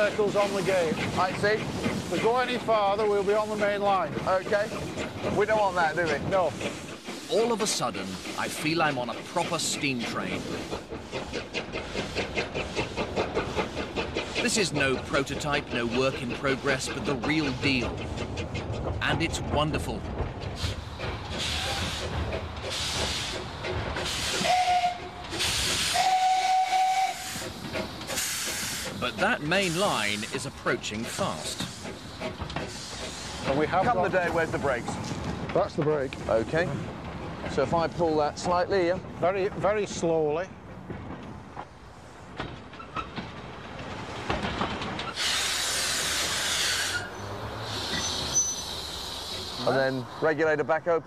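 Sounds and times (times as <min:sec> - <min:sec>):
steam locomotive chuffing: 0:00.0 - 0:51.0.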